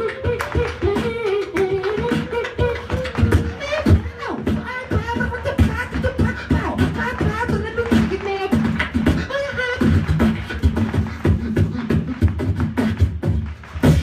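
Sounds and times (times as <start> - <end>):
beatboxing kick and snare: 0.0 - 14.0.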